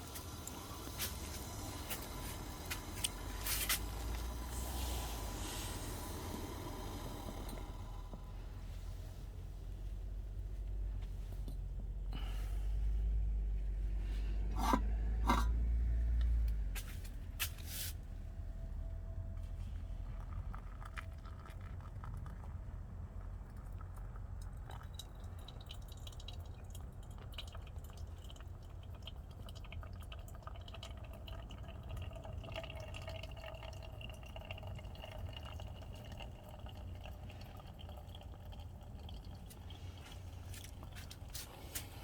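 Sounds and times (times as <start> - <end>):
liquid trickling and dripping: 0.0 - 12.6, 18.8 - 42.0.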